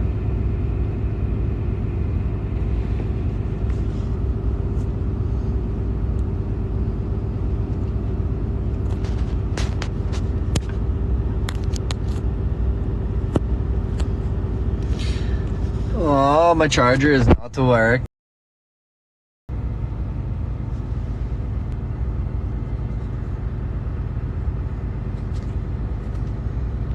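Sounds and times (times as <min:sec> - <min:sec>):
truck engine idling: 0:00.1 - 0:17.1, 0:19.6 - 0:26.9.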